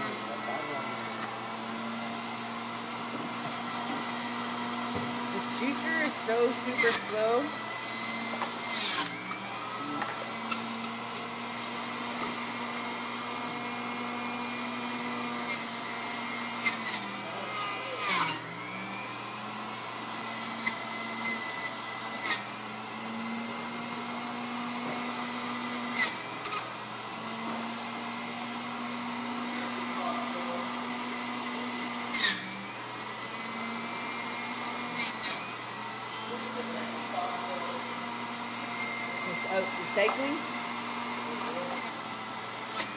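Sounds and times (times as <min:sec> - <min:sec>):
electric juicer motor humming: 0:00.0 - 0:42.9.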